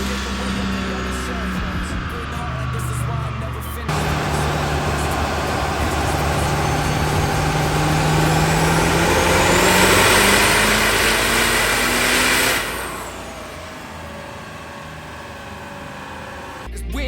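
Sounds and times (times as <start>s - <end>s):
high whine: 0.0s - 16.7s
diesel truck engine accelerating: 0.0s - 17.0s.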